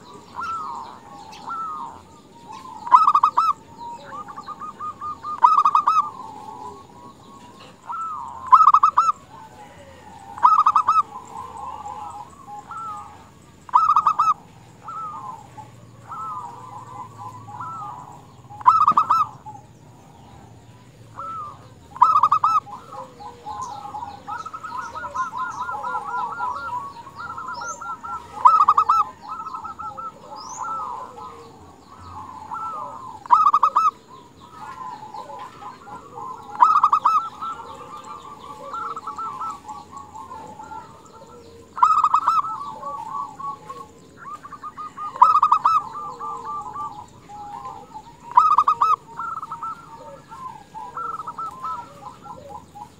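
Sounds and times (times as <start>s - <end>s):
dove cooing: 0.0s - 52.9s
soft dove calls: 0.0s - 52.9s.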